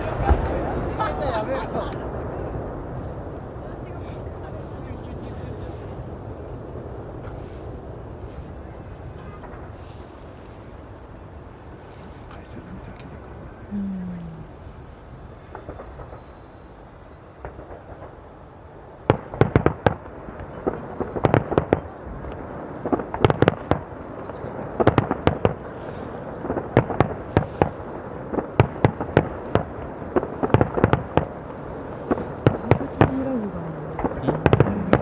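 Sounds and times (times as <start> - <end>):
fireworks bangs and crackles: 0.0 - 35.0
fireworks low rumble: 0.0 - 35.0.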